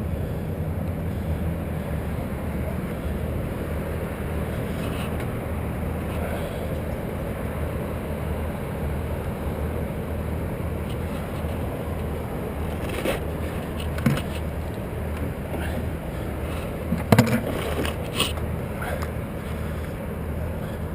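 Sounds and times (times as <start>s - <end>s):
steady low drone: 0.0s - 20.9s.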